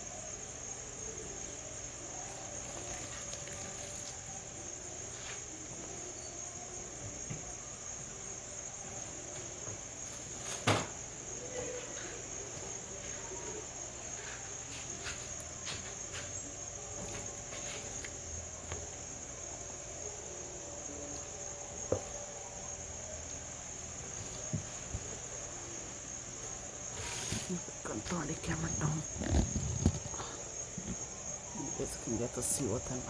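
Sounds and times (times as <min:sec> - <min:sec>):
night insects trilling: 0:00.0 - 0:33.0.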